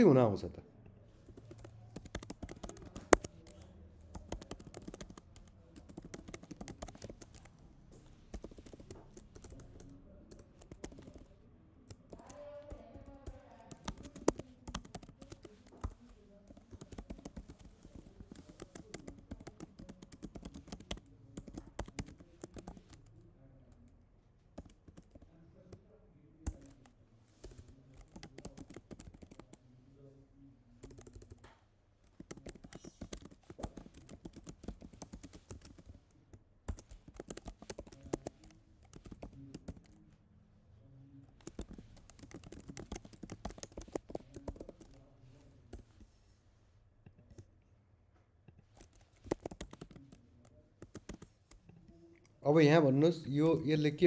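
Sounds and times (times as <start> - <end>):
computer keyboard typing: 1.3 - 25.8, 26.4 - 29.7, 30.7 - 40.2, 41.3 - 46.0, 48.5 - 51.9.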